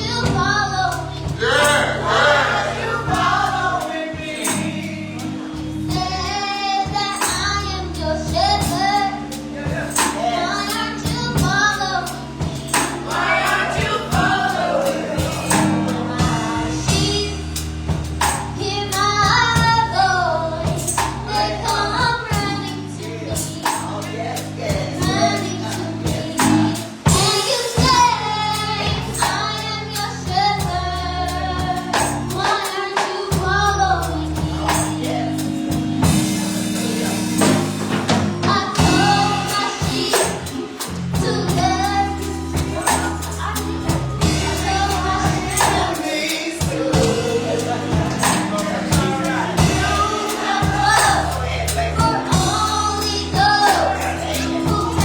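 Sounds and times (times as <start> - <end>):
bass chords: 0.0 - 32.6, 33.3 - 55.0
choir singing gospel: 0.0 - 55.0
tambourine beat: 0.3 - 55.0.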